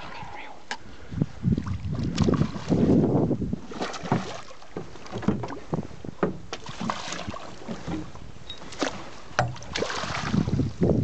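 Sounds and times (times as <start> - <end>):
water splashing against boat: 0.0 - 11.0.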